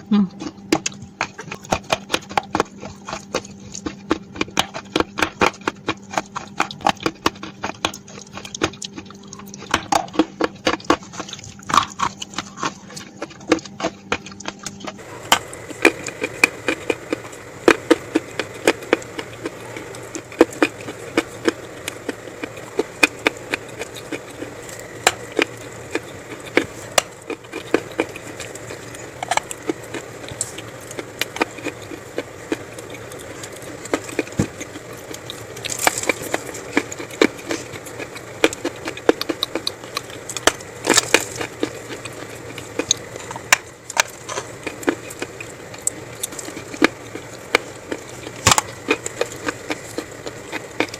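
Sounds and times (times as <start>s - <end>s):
crunching and chewing clay: 0.0s - 50.9s.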